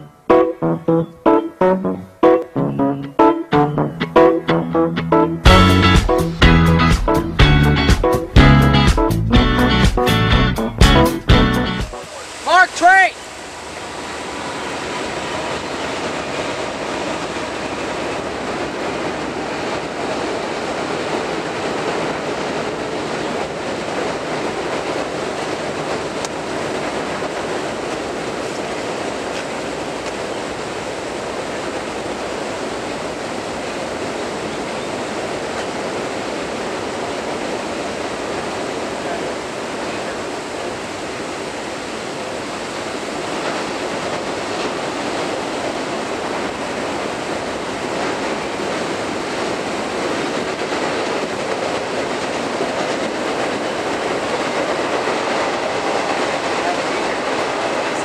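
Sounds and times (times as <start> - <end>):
freight train roaring across bridge: 0.0 - 58.0.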